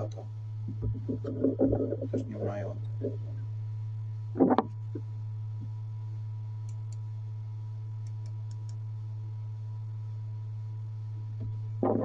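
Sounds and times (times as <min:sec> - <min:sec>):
projector low hum: 0:00.0 - 0:12.0.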